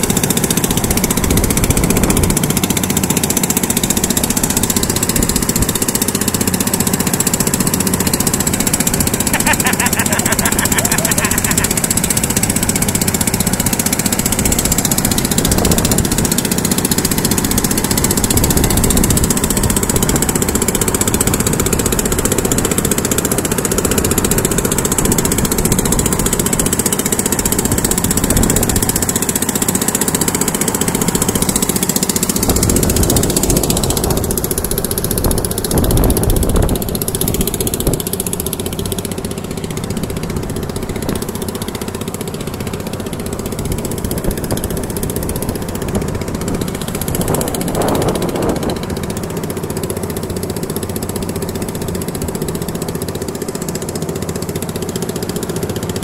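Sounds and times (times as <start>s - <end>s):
boat motor running: 0.0s - 56.0s
rushing water of moving boat: 0.0s - 56.0s.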